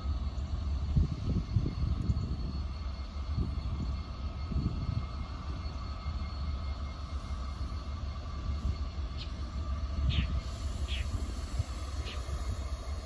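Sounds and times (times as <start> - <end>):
faint steady whine: 0.0 - 13.0
freight train diesel rumble: 0.0 - 13.0.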